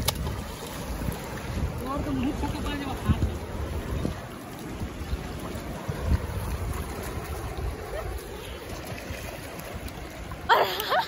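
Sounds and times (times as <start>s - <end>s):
wind buffeting microphone: 0.0s - 10.5s
river water rushing around boulders: 0.0s - 11.0s.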